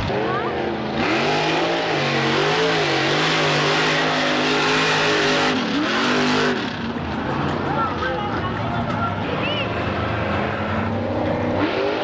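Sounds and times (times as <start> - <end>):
truck engine at high revs: 0.0 - 7.7, 9.7 - 12.0.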